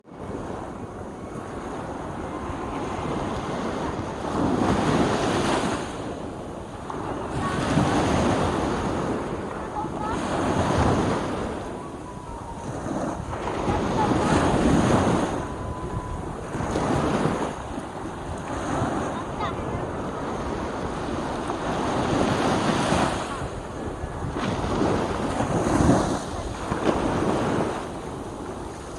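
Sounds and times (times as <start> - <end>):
wind buffeting microphone: 0.0 - 28.9
small waves washing on beach: 0.1 - 28.9.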